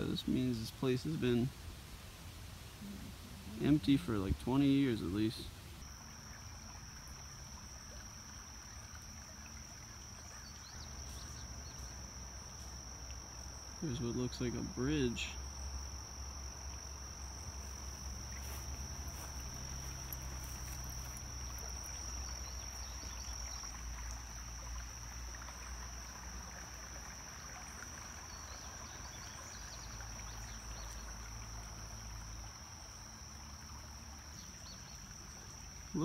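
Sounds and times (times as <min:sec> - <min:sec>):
high-pitched insect drone: 0:02.6 - 0:36.0.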